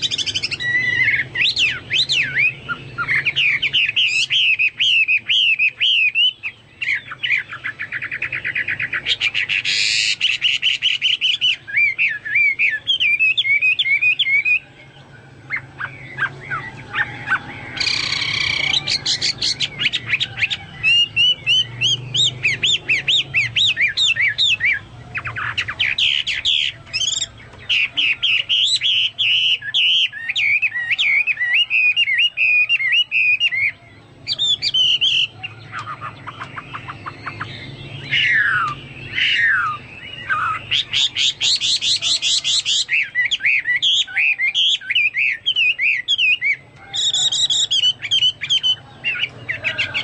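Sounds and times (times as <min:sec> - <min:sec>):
songbird singing trills and whistles: 0:00.0 - 0:50.0.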